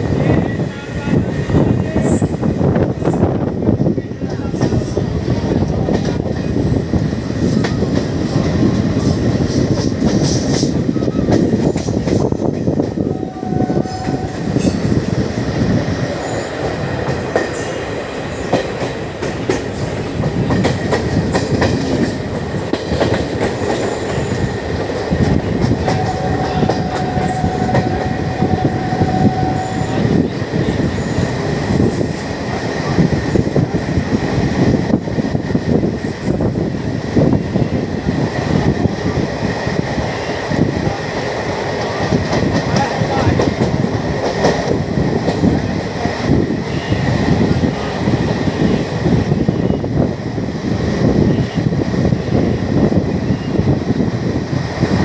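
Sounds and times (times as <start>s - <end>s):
train rumbling on tracks: 0.0s - 55.0s.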